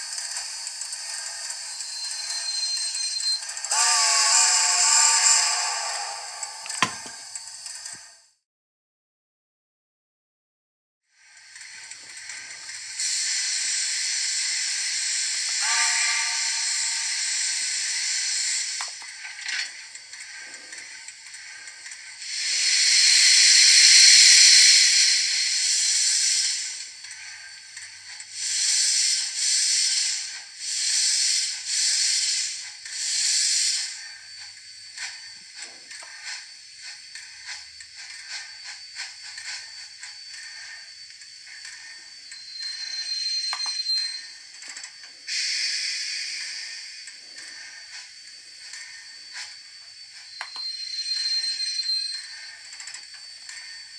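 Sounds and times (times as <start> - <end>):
slow steam chuffs: 0.0 - 8.1, 11.1 - 53.9
steam hiss: 0.0 - 8.1, 11.2 - 53.9.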